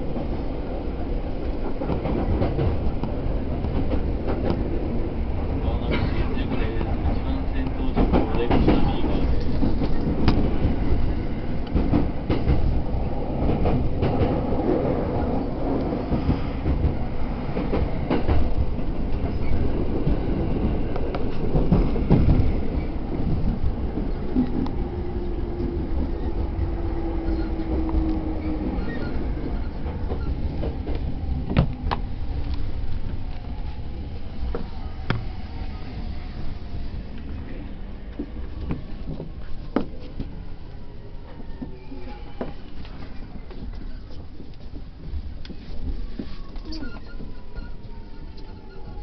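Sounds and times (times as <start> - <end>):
train rumble from inside: 0.0 - 49.0.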